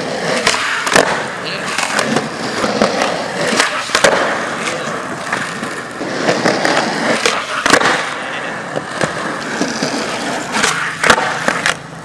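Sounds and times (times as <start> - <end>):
skateboard clacking on ground: 0.0 - 12.0
skateboard wheels rolling on concrete: 0.0 - 12.0.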